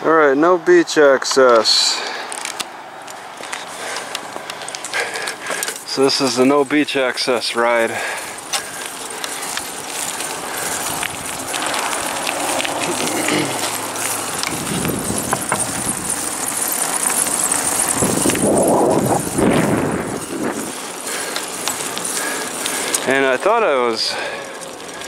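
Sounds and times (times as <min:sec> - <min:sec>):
bicycle rolling on asphalt: 0:01.5 - 0:25.0
bicycle rattles and clicks: 0:02.0 - 0:25.0.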